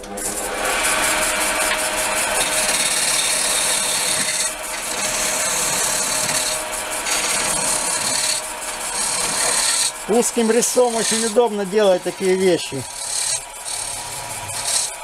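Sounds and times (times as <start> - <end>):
lathe humming: 0.0 - 15.0
hissing scrape of wood turning: 2.3 - 15.0.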